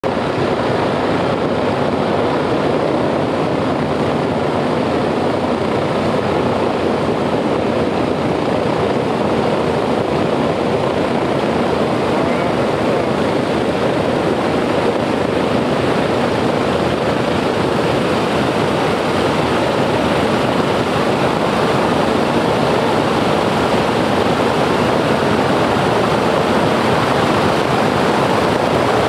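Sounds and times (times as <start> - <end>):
radial aircraft engines roaring: 0.0 - 29.0.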